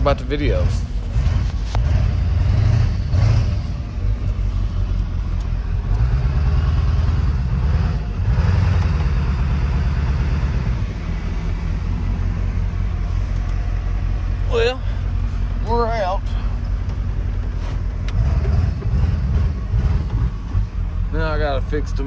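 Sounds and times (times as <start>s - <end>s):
diesel engine rumbling under load: 0.0s - 22.0s.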